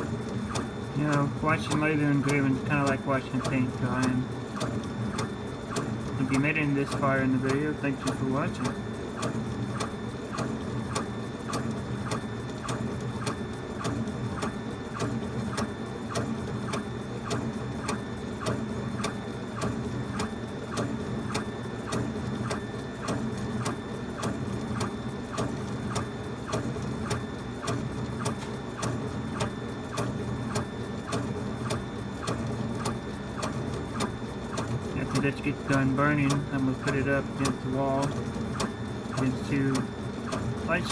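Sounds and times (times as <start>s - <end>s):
steady low hum: 0.0s - 40.9s
laser engraver head clicking: 0.4s - 40.9s.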